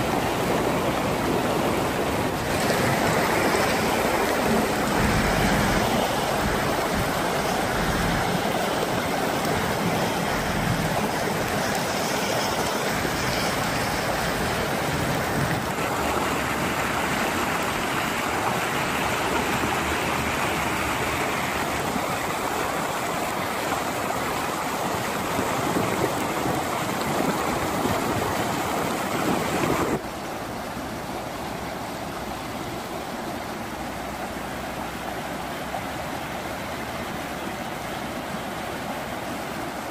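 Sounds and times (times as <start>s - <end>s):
flood water rushing over rocks: 0.0s - 39.9s.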